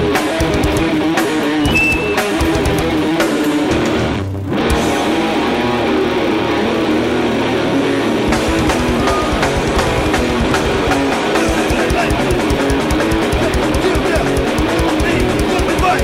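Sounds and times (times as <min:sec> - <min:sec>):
bass guitar riffing: 0:00.0 - 0:16.0
distorted electric guitars: 0:00.0 - 0:16.0
drums: 0:00.0 - 0:16.0.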